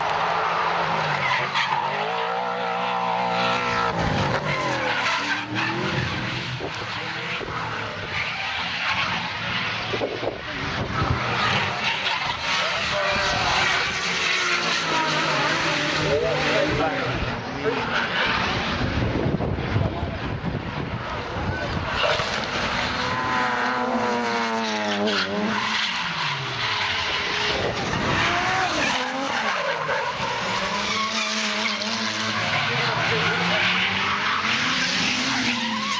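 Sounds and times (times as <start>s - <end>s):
tyres skidding: 0.0s - 19.1s, 19.7s - 35.9s
car engine revving high: 0.0s - 35.9s.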